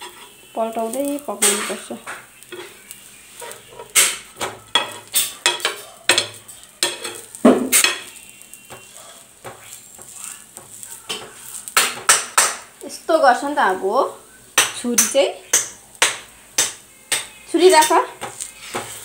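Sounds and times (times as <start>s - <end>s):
spatula scraping and tapping on pan: 0.0s - 12.7s, 14.6s - 19.0s
light sizzle of frying in oil: 0.0s - 19.0s.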